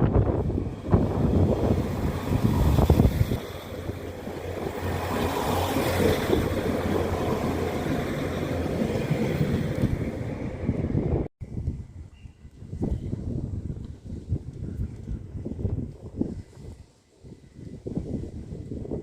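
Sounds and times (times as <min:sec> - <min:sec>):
outdoor noise: 0:00.0 - 0:19.0
wind buffeting microphone: 0:00.0 - 0:19.0.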